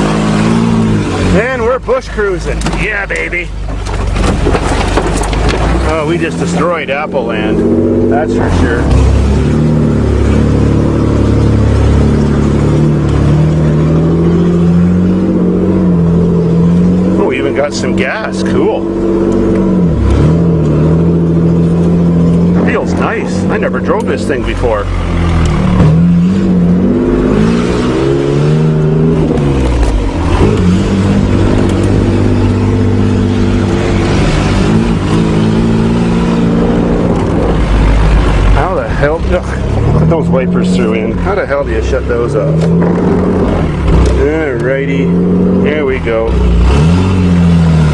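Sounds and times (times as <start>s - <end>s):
truck engine under load: 0.0s - 47.9s.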